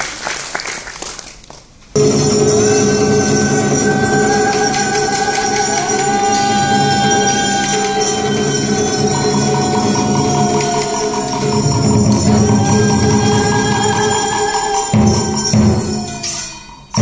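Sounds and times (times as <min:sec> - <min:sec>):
heavy drum beats: 0:02.0 - 0:16.4
traditional ensemble music: 0:02.0 - 0:17.0.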